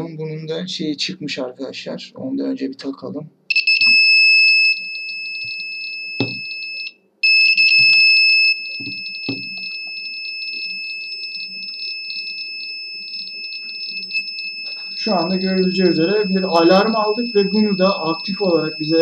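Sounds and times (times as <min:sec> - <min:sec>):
high-pitched alarm buzzer: 0:03.5 - 0:19.0.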